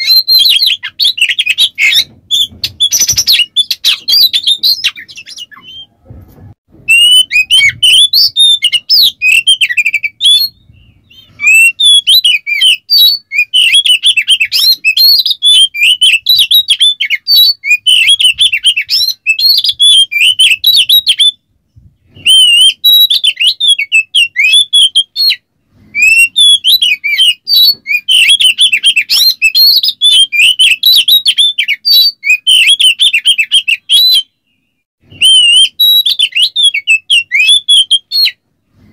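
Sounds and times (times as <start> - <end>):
bird singing whistles and chatter: 0.0 - 6.0, 6.9 - 21.4, 22.1 - 38.4.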